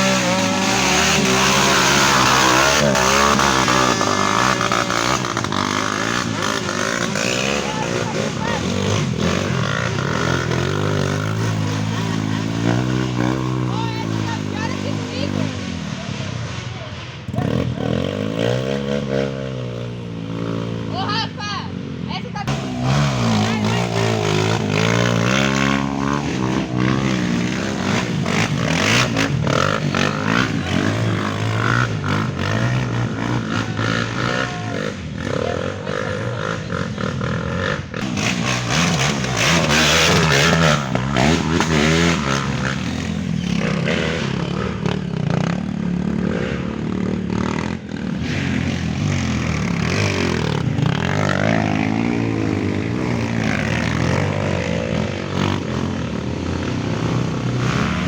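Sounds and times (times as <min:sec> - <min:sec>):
motorcycles revving hard: 0:00.0 - 0:58.0.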